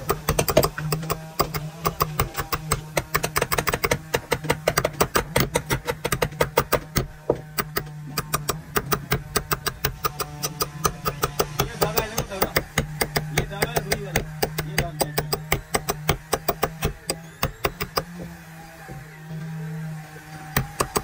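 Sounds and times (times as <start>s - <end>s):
rapid hammer knocks: 0.0s - 18.4s, 20.5s - 21.0s.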